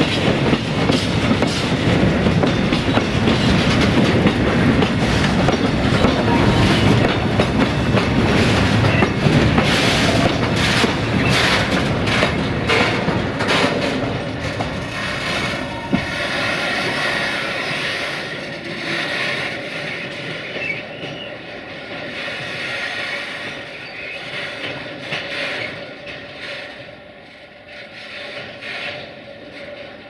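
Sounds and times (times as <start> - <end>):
train wagons rolling: 0.0 - 30.0
train wheels clacking over rail joints: 0.0 - 30.0.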